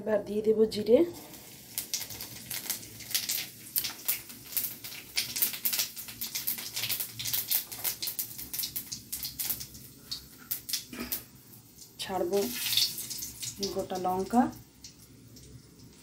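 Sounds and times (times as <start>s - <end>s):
seeds crackling in hot oil: 0.8s - 16.0s.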